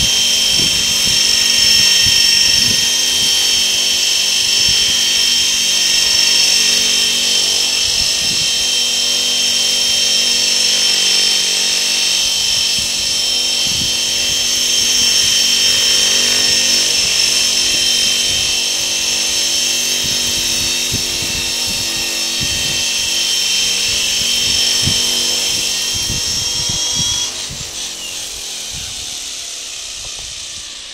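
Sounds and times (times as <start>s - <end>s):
rc helicopter whine: 0.0s - 30.9s.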